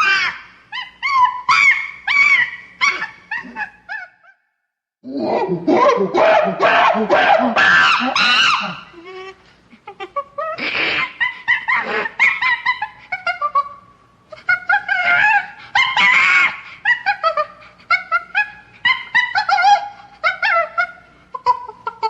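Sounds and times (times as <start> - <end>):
chimpanzee screaming and hooting: 0.0 - 4.4, 5.1 - 22.0.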